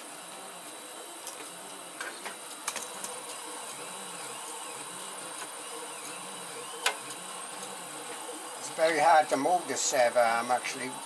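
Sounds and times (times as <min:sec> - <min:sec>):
stepper motors whining: 0:00.0 - 0:11.0.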